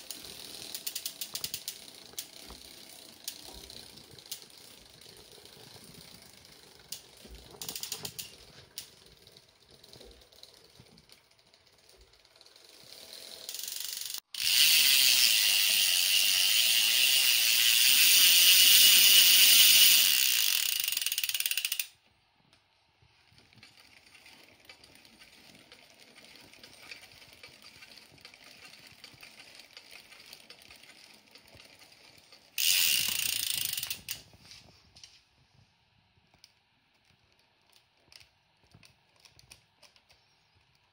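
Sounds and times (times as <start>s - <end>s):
dry bike chain grinding: 0.0s - 22.0s, 23.4s - 34.3s.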